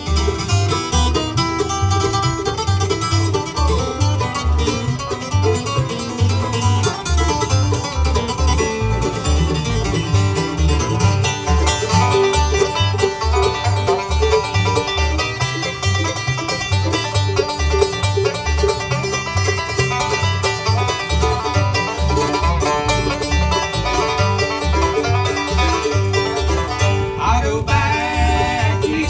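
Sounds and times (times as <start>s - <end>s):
banjo: 0.0s - 29.0s
mandolin: 0.0s - 29.0s
strummed acoustic guitar: 0.0s - 29.0s
upright bass beat: 0.0s - 29.0s.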